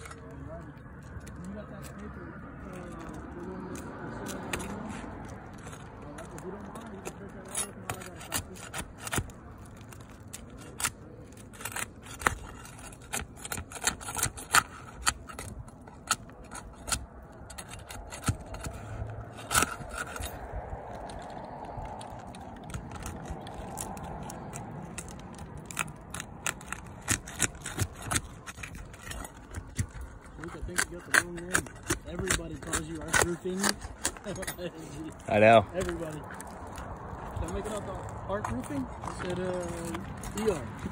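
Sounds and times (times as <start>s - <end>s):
sharp clicks of shingles: 0.0s - 40.9s
pry bar scraping shingles: 2.6s - 40.9s.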